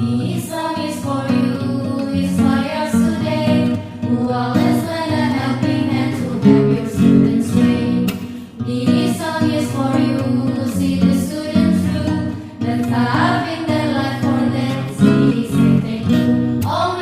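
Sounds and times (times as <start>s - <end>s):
acoustic guitar: 0.0s - 17.0s
vocal group singing: 0.0s - 17.0s.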